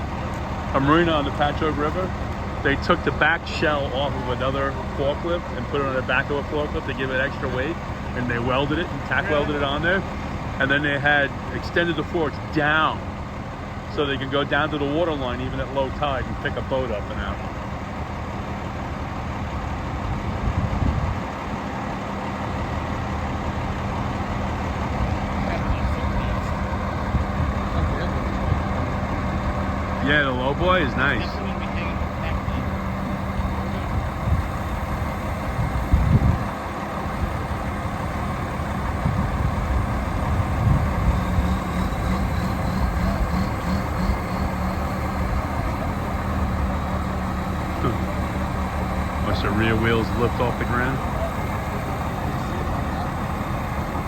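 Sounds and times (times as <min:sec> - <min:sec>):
heavy engines rumbling: 0:00.0 - 0:54.0.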